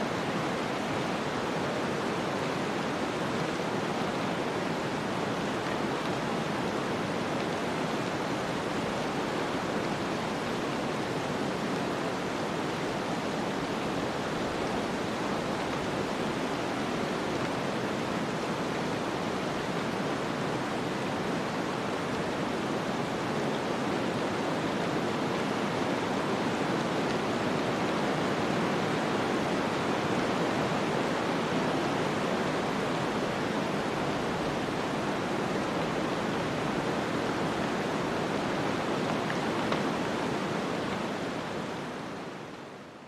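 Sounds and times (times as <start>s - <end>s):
wind: 0.0s - 43.0s.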